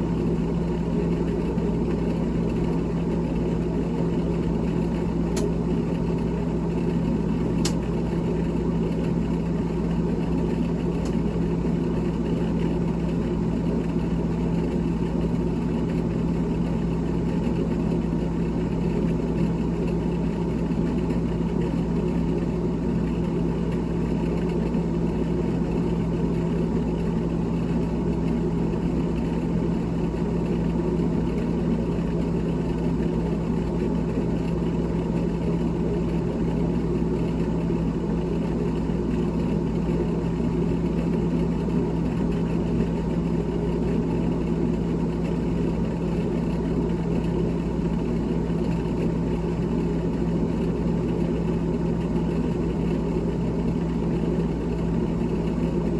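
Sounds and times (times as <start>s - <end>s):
refrigerator fan hum: 0.0s - 55.9s.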